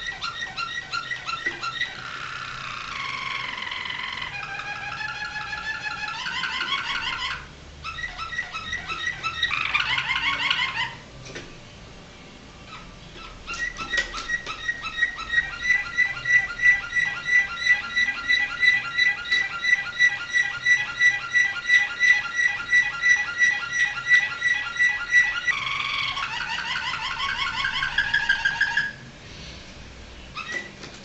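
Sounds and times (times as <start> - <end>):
canary singing: 0.0 - 11.1, 12.6 - 29.1, 30.2 - 30.8.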